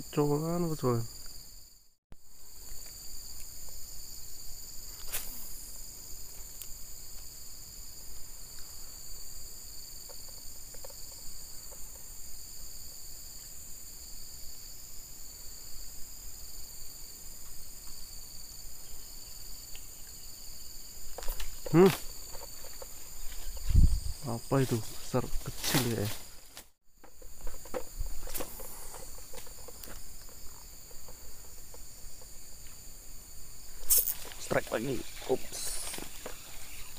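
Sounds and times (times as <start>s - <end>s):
insects shrilling: 0.0s - 36.9s.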